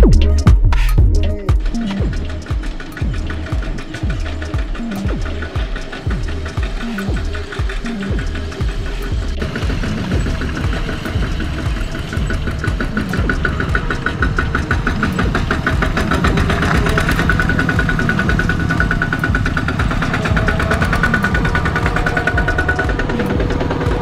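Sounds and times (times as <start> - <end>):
diesel engine clattering under load: 1.9 - 24.0.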